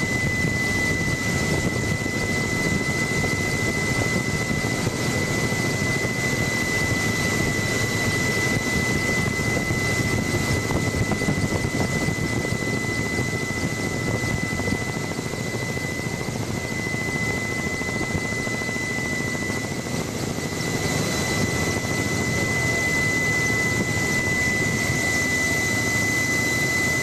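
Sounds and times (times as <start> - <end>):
helicopter rotor and engine drone: 0.0 - 27.0
high-pitched whine: 0.0 - 27.0.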